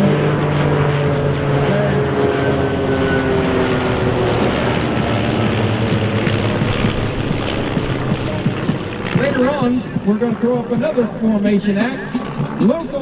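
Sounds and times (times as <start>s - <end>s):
loud rushing noise: 0.0s - 12.8s
propeller aircraft engines droning: 0.0s - 13.0s.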